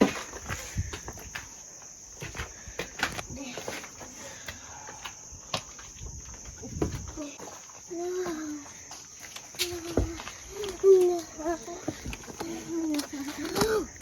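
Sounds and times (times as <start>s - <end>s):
footsteps on rock: 0.0s - 14.0s
insects droning: 0.0s - 14.0s.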